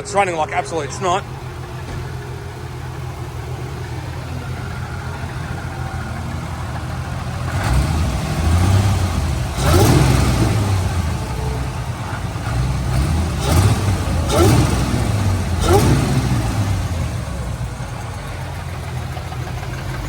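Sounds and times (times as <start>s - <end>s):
car engine idling roughly and revving: 0.0s - 20.0s.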